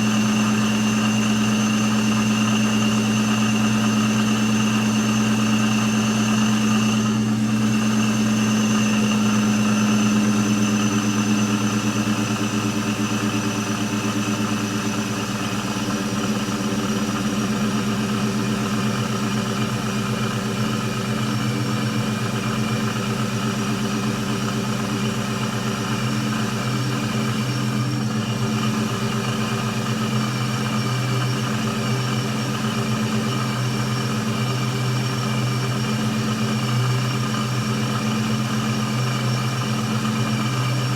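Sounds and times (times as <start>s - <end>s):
car engine idling: 0.0s - 40.9s
supercharger whine: 0.0s - 40.9s.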